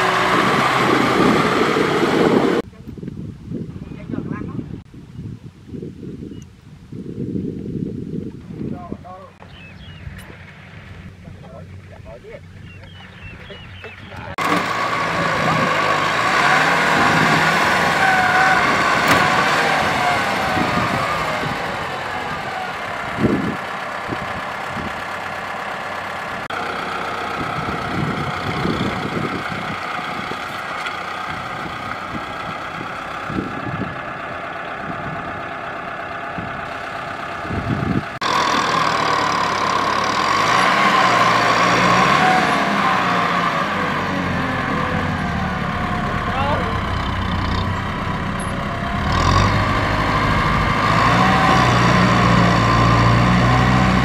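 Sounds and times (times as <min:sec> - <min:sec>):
tractor diesel engine under load: 0:00.0 - 0:04.8, 0:07.0 - 0:54.0.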